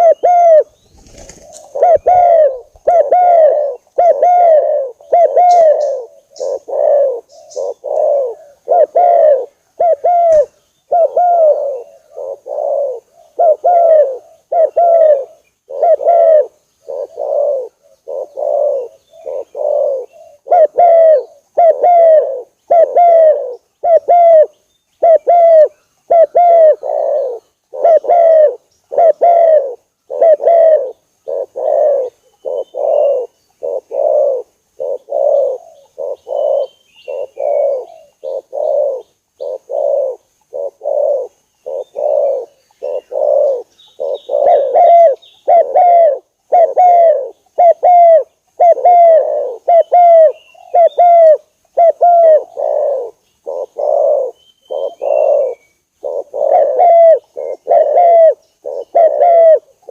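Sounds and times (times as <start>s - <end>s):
doves cooing: 0.0s - 59.9s.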